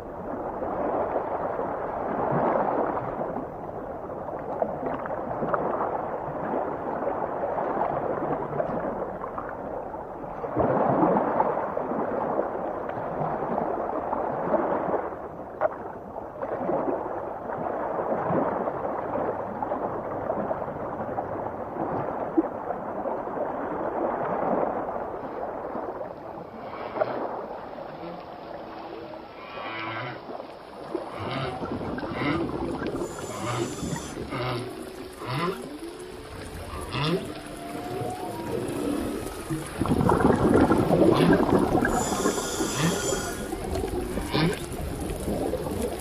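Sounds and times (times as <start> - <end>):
underwater water gurgling: 0.0 - 46.0.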